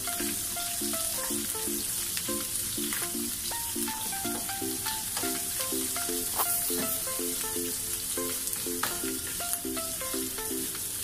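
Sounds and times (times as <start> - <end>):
music of short repeated notes: 0.0 - 11.0
onions sizzling in oil: 0.0 - 11.0.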